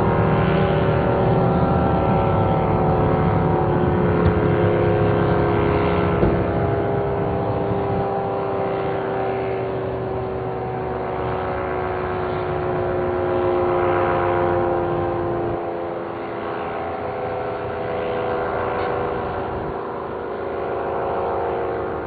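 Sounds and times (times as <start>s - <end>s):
warning siren held tone: 0.0s - 22.0s.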